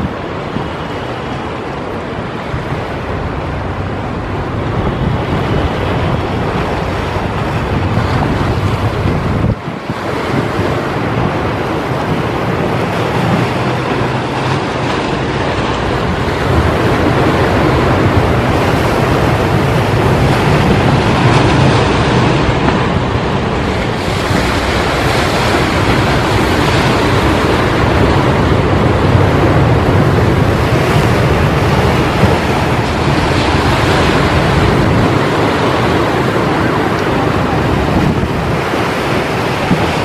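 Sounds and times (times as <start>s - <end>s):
waves breaking on shore: 0.0s - 40.0s
wind on microphone: 0.0s - 40.0s.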